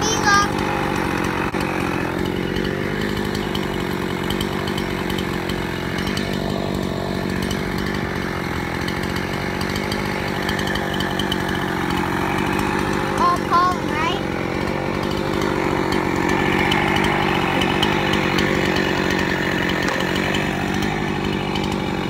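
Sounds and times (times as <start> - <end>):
chainsaw running: 0.0 - 22.0.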